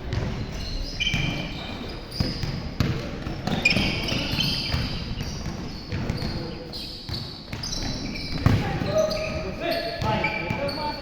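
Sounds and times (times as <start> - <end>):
basketball bouncing: 0.0 - 6.5, 7.1 - 10.6
sneakers squeaking on floor: 0.0 - 11.0.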